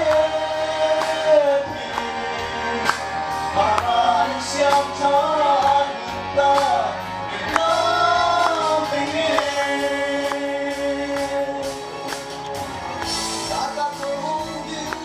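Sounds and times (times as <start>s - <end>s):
musical accompaniment: 0.0s - 15.0s
vocal trio singing: 0.0s - 15.0s.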